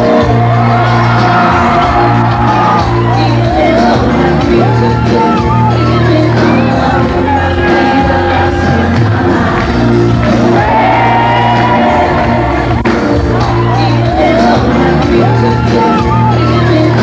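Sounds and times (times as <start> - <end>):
pop music with singing voice: 0.0 - 17.0
steady bass: 0.0 - 17.0.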